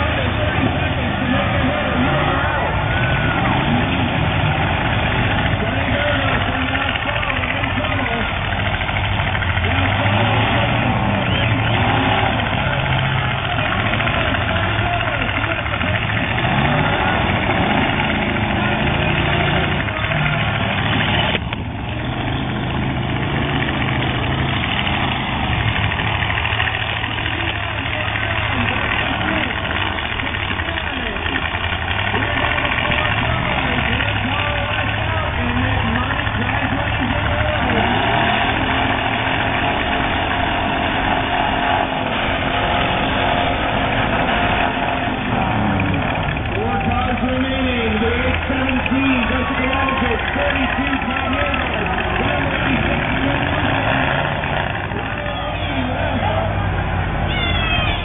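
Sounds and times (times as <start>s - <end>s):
arena crowd noise: 0.0s - 58.0s
car engines running: 0.0s - 58.0s.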